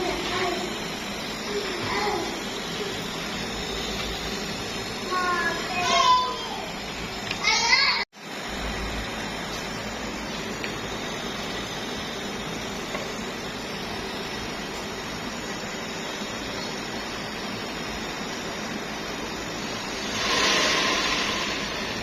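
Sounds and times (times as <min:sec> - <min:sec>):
pressurised gas hissing: 0:00.0 - 0:22.0
steady background hiss: 0:00.0 - 0:22.0.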